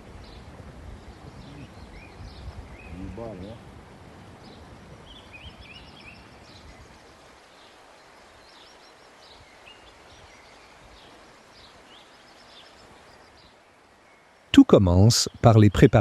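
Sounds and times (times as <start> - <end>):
faint outdoor background noise: 0.0 - 16.0
songbirds chirping: 0.0 - 16.0.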